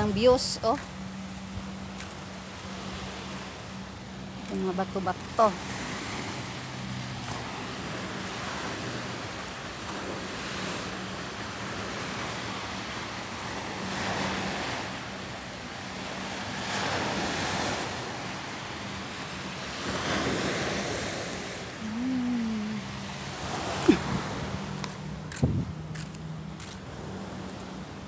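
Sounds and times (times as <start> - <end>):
waves washing on sandy beach: 0.0 - 28.0.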